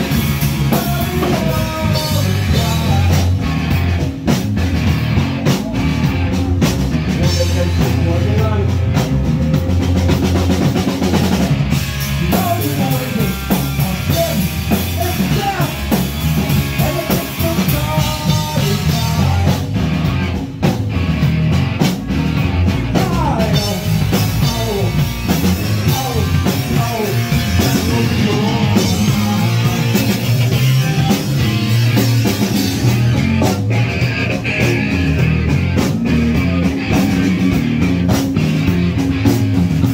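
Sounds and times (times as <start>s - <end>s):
live punk rock band: 0.0s - 39.9s.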